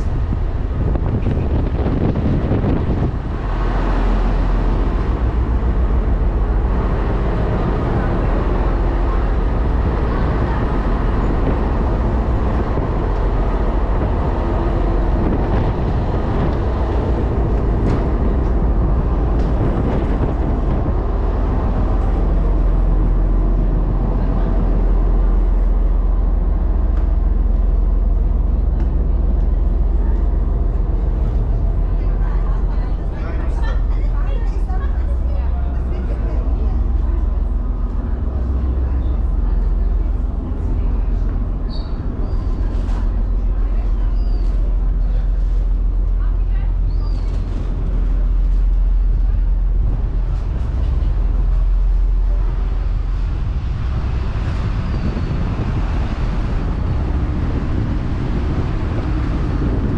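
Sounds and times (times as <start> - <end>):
low engine rumble: 0.0 - 59.9
faint voices: 6.1 - 59.9.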